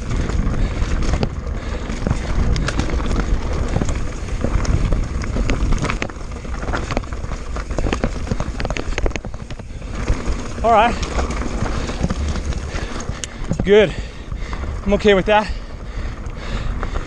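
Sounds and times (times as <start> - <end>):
tyres crunching over rock: 0.0 - 15.4
low rumble: 0.0 - 17.0.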